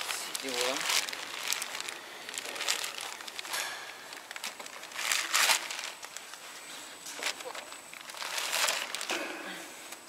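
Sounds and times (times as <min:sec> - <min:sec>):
plastic bag crinkling: 0:00.0 - 0:09.2.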